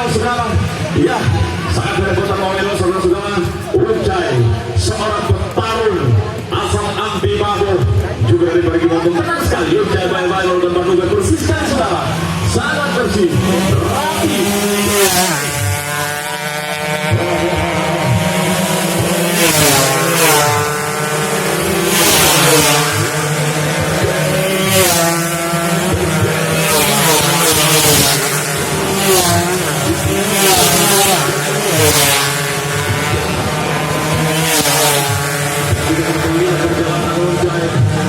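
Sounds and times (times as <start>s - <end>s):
racing motorcycles at full throttle: 0.0s - 38.0s.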